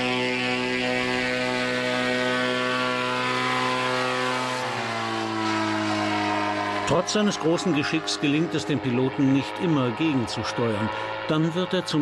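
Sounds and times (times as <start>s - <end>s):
paramotor engine buzzing drone: 0.0s - 12.0s.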